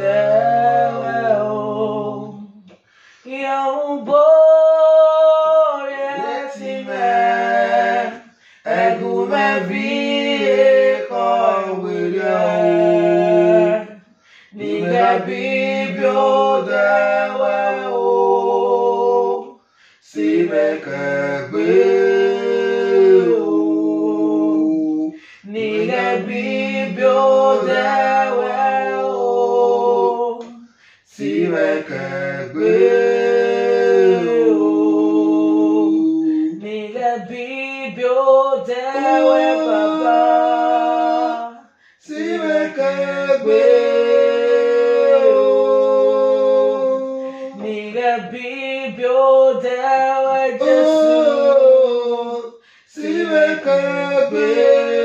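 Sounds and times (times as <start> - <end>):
man and woman singing: 0.0 - 55.0.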